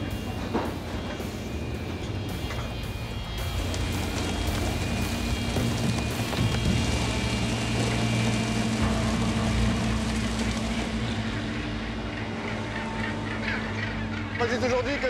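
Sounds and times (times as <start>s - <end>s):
broad hissing noise: 0.0s - 13.0s
low machinery drone: 0.0s - 15.0s.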